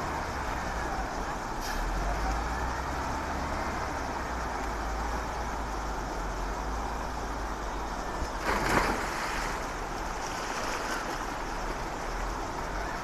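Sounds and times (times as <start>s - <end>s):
distant diesel engines rumbling: 0.0s - 13.0s.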